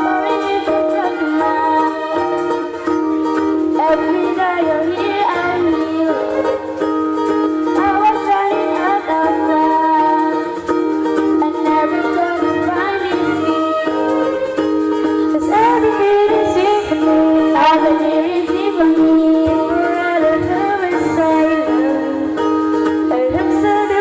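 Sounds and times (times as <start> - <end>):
instrumental accompaniment chords: 0.0 - 24.0.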